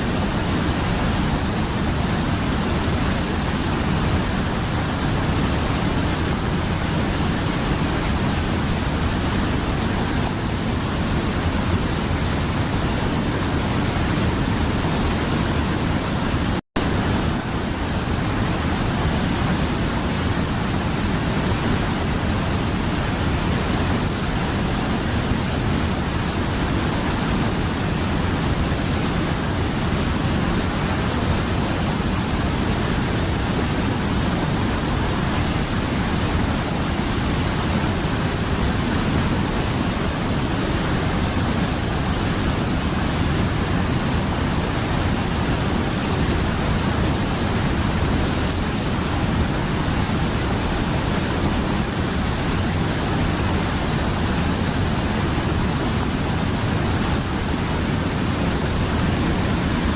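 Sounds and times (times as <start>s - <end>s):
mountain river rushing: 0.0s - 59.9s.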